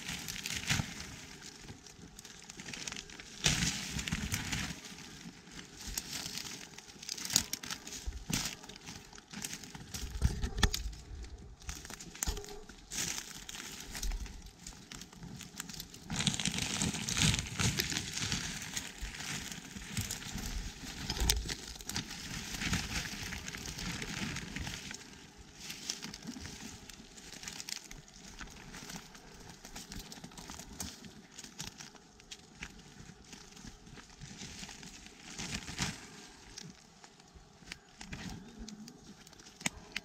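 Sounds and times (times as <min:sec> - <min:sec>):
dry leaves rustling and crackling: 0:00.0 - 0:40.0.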